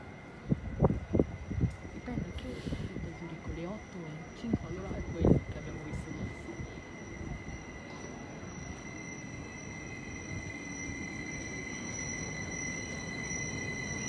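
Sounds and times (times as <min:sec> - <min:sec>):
steady high whine: 0:00.0 - 0:14.0
train rumbling into station: 0:00.0 - 0:14.0.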